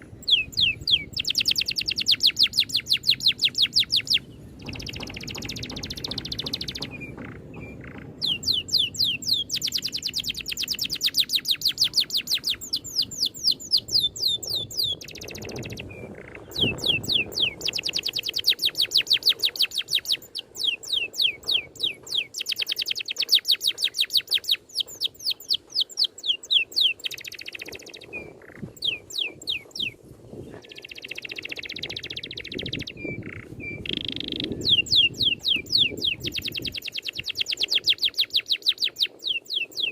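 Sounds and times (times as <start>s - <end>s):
songbird singing rapid runs: 0.0s - 39.9s
bird chattering: 0.2s - 30.0s, 30.6s - 39.9s.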